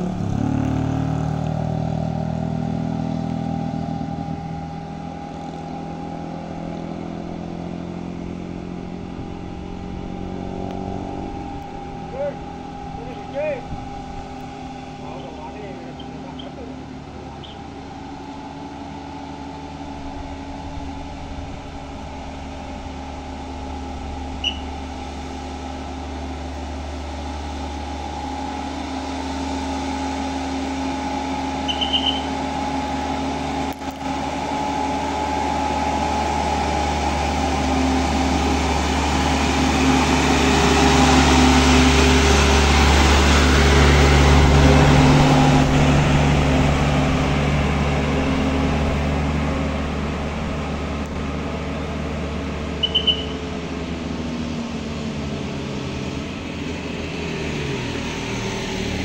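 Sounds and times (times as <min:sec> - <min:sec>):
diesel truck engine labouring: 0:00.0 - 0:59.0.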